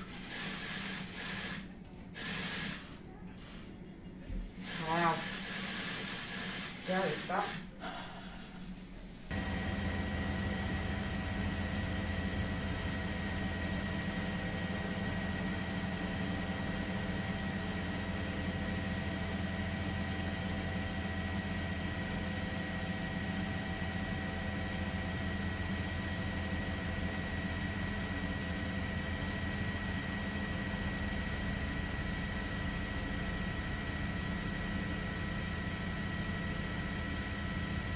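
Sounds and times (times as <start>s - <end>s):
helicopter engine and rotors: 0.0s - 7.8s, 9.3s - 37.9s.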